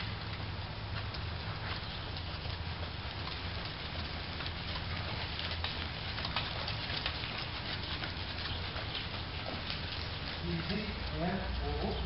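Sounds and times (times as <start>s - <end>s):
hooves scuffing in sand: 0.9s - 12.0s.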